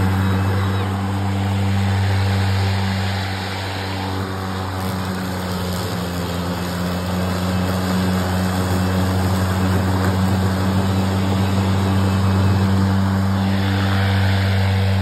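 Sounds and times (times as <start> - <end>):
blade cutting grass: 0.0 - 15.0
lawnmower motor hum: 0.0 - 15.0.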